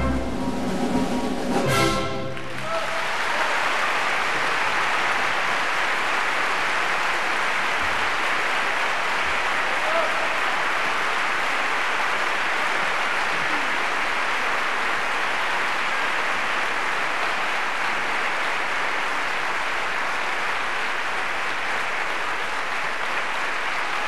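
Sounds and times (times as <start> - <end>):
audience applauding: 1.3 - 24.0.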